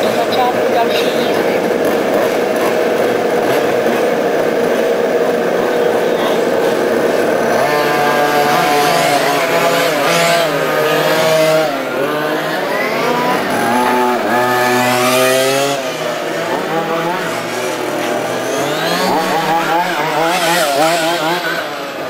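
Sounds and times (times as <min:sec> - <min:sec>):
rc car engines revving: 0:00.0 - 0:22.0.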